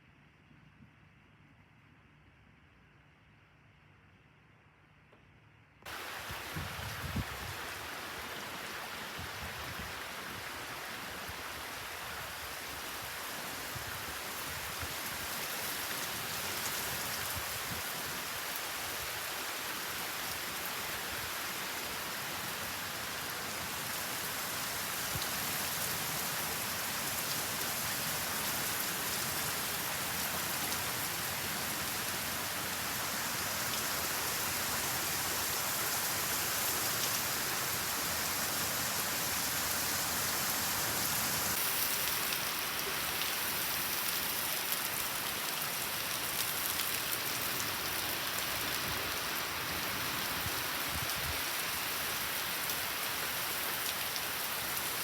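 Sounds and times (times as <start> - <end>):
torrential rain pouring: 5.9 - 55.0.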